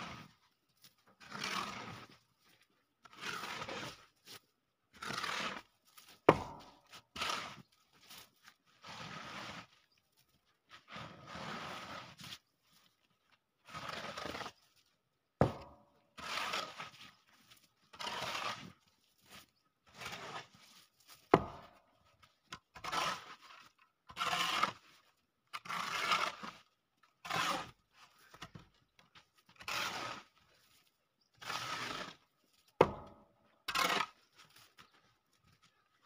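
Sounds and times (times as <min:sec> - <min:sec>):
shovel scraping snow on concrete: 0:00.0 - 0:36.0.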